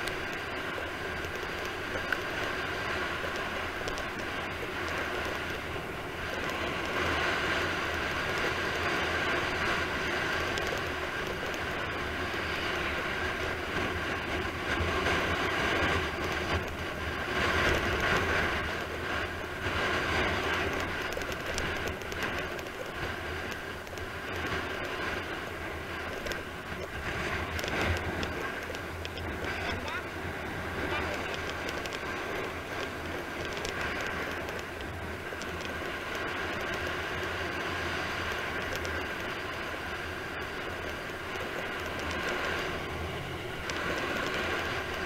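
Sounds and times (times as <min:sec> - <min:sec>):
wheels rumbling on asphalt: 0:00.0 - 0:45.0
wind rushing over microphone: 0:00.0 - 0:45.0.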